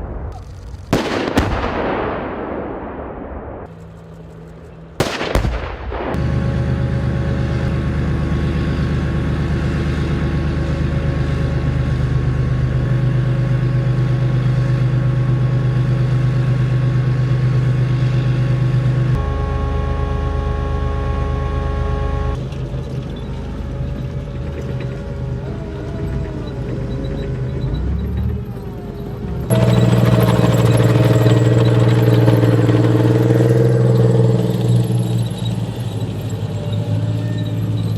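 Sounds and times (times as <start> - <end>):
tank engine droning: 0.0 - 37.9.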